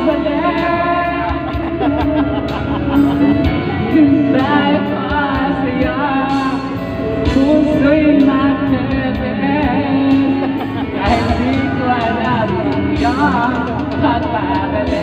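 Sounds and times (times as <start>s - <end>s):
man singing into microphone: 0.0s - 1.8s, 3.0s - 15.0s
backing music: 0.0s - 15.0s.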